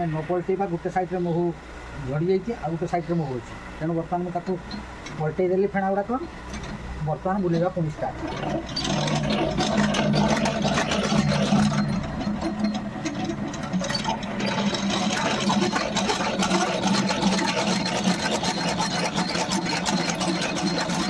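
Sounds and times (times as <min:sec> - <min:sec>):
honey extractor whirring: 0:00.0 - 0:21.0.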